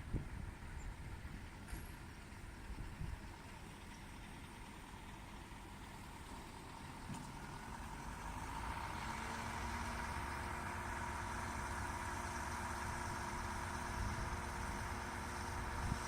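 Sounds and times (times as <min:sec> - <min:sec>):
engine running with whine: 0:00.0 - 0:16.0.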